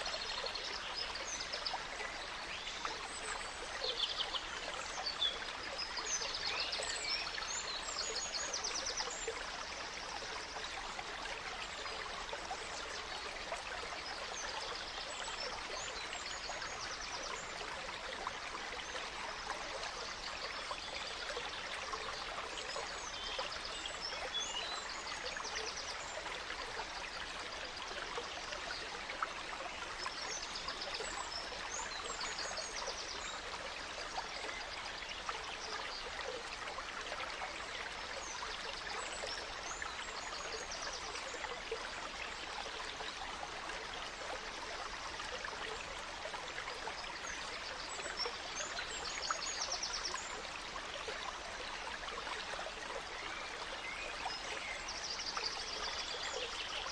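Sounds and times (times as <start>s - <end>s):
gentle stream flowing: 0.0s - 56.9s.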